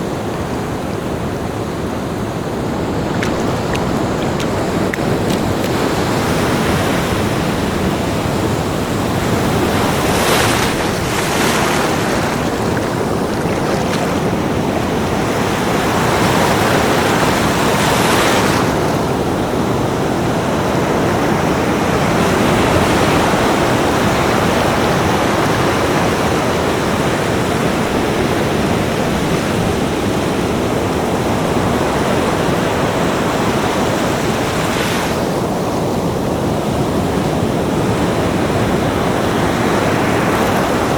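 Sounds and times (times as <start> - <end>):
ocean waves breaking: 0.1 - 40.9.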